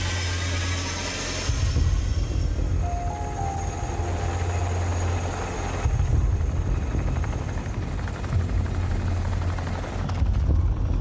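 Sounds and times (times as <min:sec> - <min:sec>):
high steady whine: 0:00.0 - 0:09.6
helicopter rotor and engine: 0:00.0 - 0:11.0.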